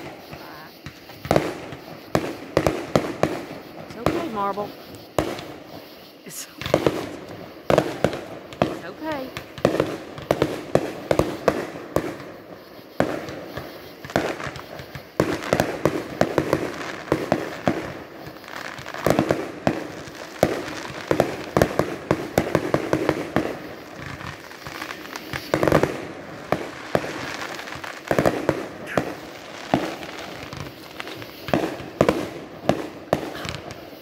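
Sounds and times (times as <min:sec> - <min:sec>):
fireworks bangs: 0:00.0 - 0:34.0
fireworks popping and crackling: 0:00.0 - 0:34.0.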